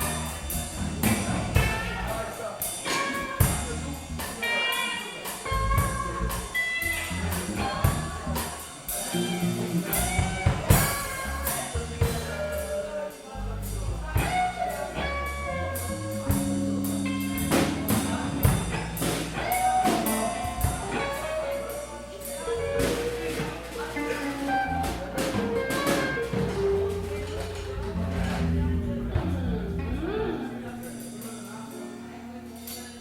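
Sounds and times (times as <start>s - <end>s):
bass line: 0.0s - 32.6s
drums keeping time: 0.0s - 33.0s.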